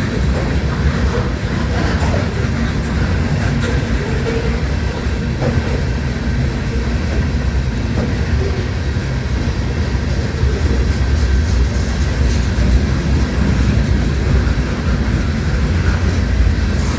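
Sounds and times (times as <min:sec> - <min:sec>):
freight train rumbling past: 0:00.0 - 0:16.9.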